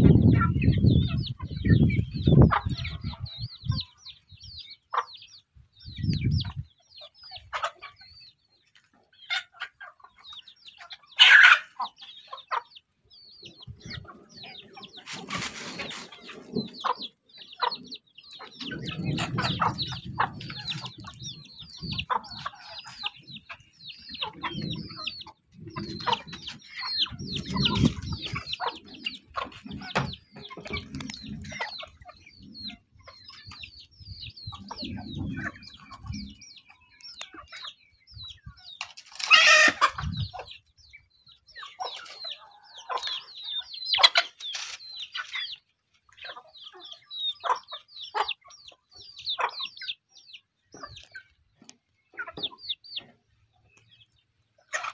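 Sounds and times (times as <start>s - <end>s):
young chickens peeping and clucking: 0.0s - 54.9s.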